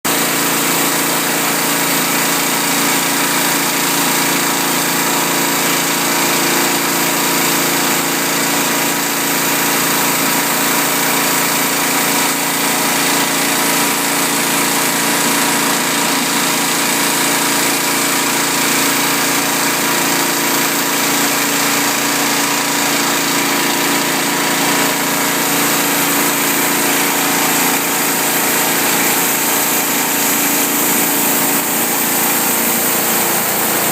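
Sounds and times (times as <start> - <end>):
pressure washer motor hum: 0.0 - 33.9
high-pressure water jets hissing: 0.1 - 33.9.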